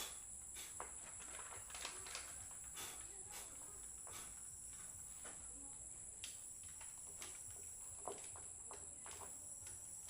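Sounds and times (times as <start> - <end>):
insect chirring: 0.0 - 10.0.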